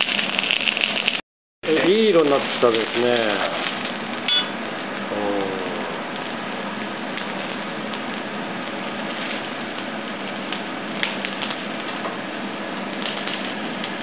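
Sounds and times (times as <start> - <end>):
eggplant sizzling in oil: 0.0 - 14.0.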